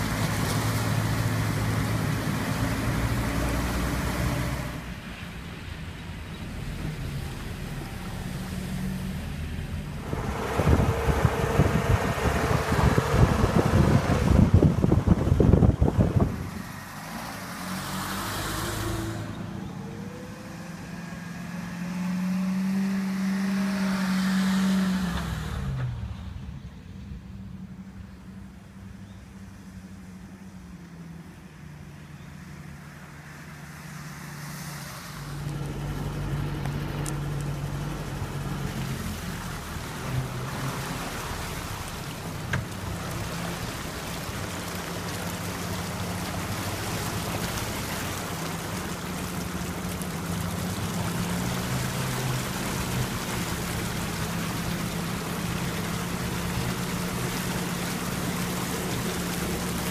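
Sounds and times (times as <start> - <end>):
vehicle engine running: 0.0 - 34.3, 35.2 - 59.9
water rushing and sloshing: 0.0 - 59.9.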